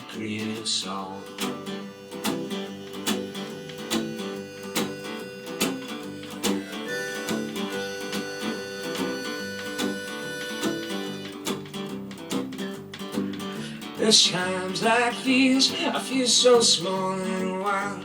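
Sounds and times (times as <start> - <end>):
strummed guitar: 0.0 - 18.0
acoustic band playing: 0.6 - 18.0.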